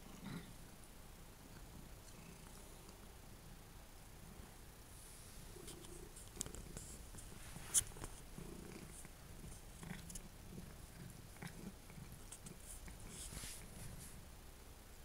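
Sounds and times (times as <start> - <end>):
cat purring: 0.0 - 0.6, 1.4 - 3.5, 4.1 - 14.3.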